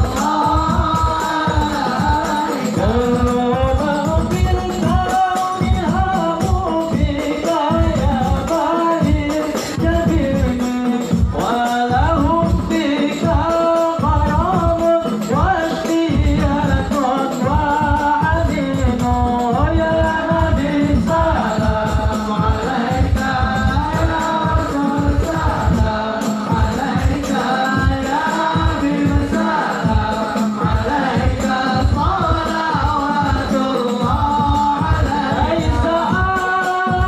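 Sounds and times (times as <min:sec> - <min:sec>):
group singing devotional song: 0:00.0 - 0:37.0
hand-played frame drums: 0:00.0 - 0:37.0.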